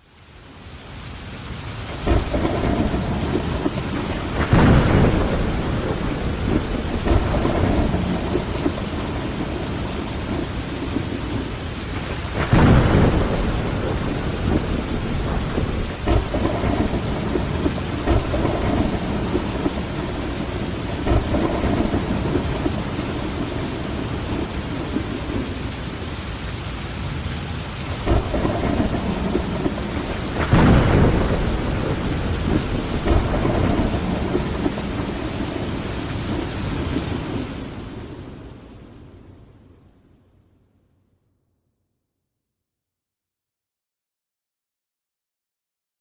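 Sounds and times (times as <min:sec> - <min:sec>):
rain on window glass: 0:00.0 - 0:39.6
thunder rumbling: 0:01.8 - 0:39.5.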